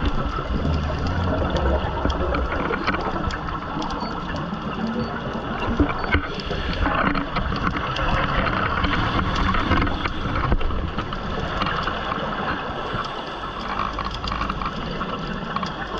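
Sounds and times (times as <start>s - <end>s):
rushing water: 0.0s - 15.9s
small crackles: 0.0s - 15.9s.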